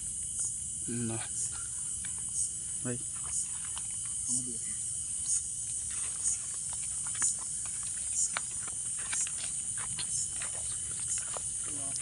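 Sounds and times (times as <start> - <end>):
crickets and insects calling: 0.0 - 12.0.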